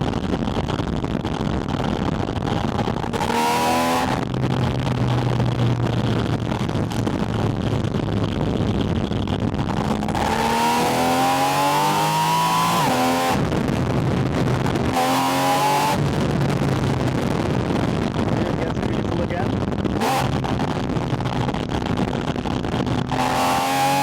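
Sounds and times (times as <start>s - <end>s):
wind noise: 0.0s - 24.0s
sports car engine intake roar: 0.2s - 24.0s.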